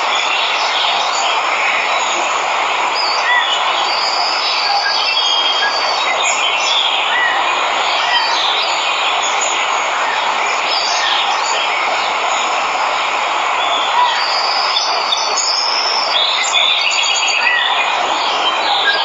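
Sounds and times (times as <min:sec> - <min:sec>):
birds chirping: 0:00.0 - 0:19.0
waterfall rushing: 0:00.0 - 0:19.0.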